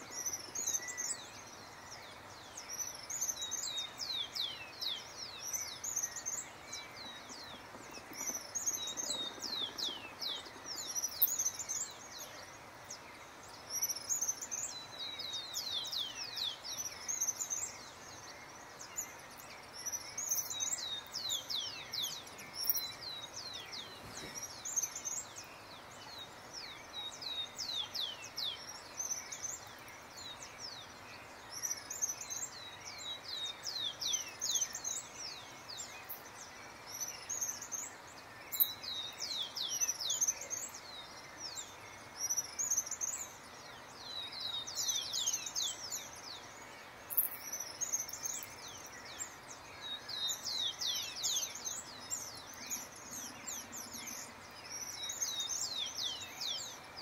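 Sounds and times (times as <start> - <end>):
songbirds chirping: 0.0 - 57.0
steady background hiss: 0.0 - 57.0.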